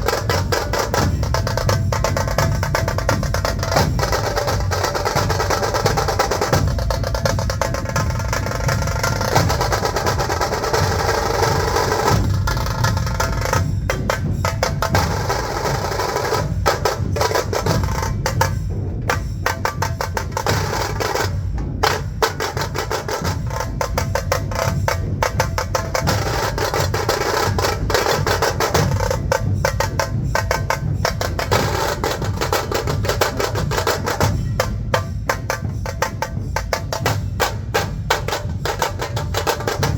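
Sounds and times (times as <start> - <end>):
large drums beating heavy pulse: 0.0 - 39.9
rapid drum stick strokes: 0.0 - 39.9.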